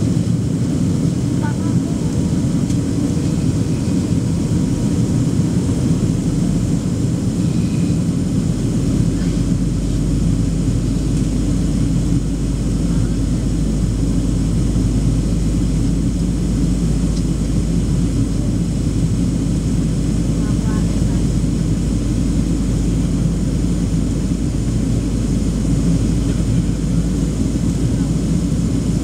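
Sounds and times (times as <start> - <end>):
jet engine cabin roar: 0.0 - 29.0.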